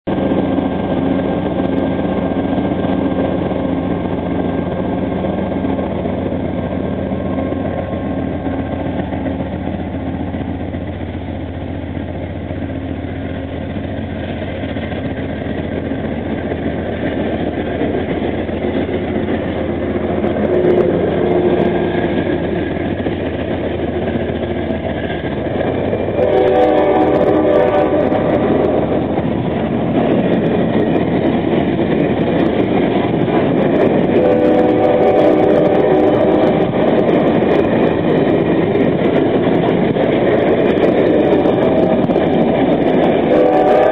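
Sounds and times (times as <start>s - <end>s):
diesel locomotive engine: 0.0s - 43.9s
train cars rolling on rails: 0.1s - 43.9s.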